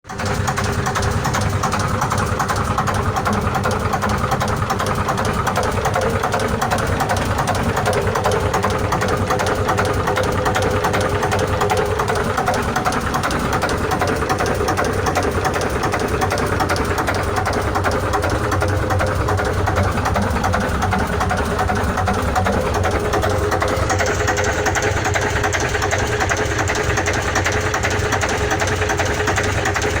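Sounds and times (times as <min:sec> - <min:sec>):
marine engine running: 0:00.0 - 0:30.0.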